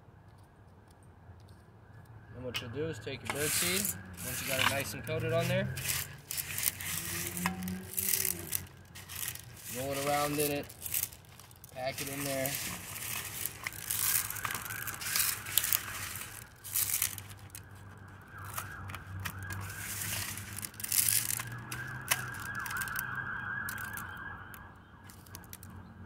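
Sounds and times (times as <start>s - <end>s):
siren wailing: 2.0s - 26.0s
bird seed rustling and crunching: 3.1s - 25.8s.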